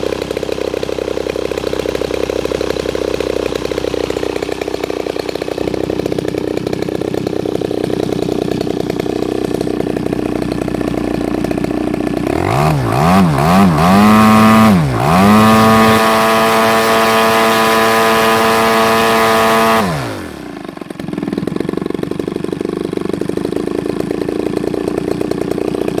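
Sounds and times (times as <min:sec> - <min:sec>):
model aircraft engine running: 0:00.0 - 0:26.0.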